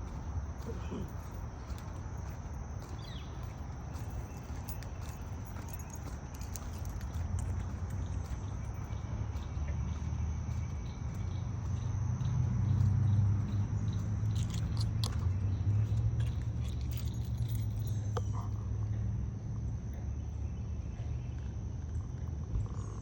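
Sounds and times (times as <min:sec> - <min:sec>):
light steps and ticks: 0:00.0 - 0:18.6
high insect drone: 0:00.0 - 0:23.0.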